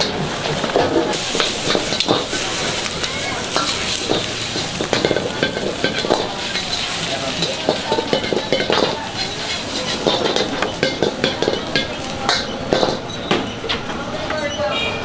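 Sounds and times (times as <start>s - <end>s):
food sizzling in a wok: 0.0s - 13.1s
cooking utensils clicking: 0.0s - 14.6s.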